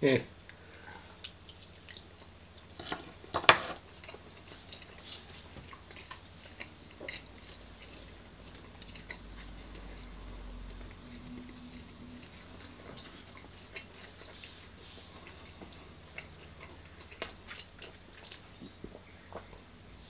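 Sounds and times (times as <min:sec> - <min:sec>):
wet chewing mouth sounds: 0:01.0 - 0:19.8.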